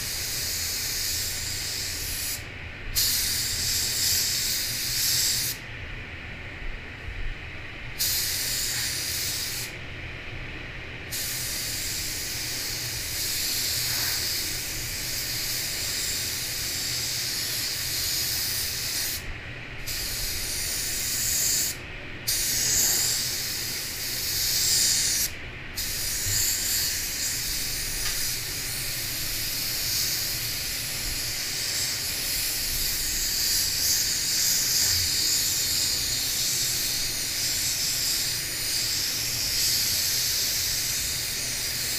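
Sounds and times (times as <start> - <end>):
spray gun hissing: 0.0 - 5.6, 8.0 - 9.8, 11.1 - 41.9.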